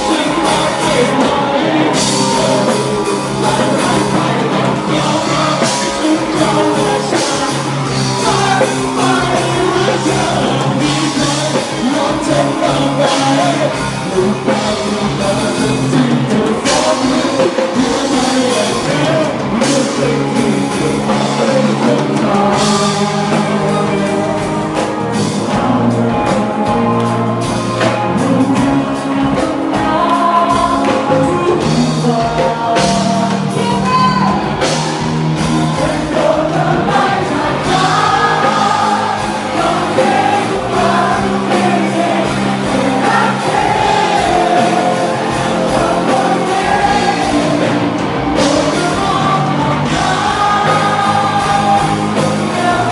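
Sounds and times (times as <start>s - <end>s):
live band playing pop-rock: 0.0s - 52.9s
people singing into microphones: 0.0s - 52.9s.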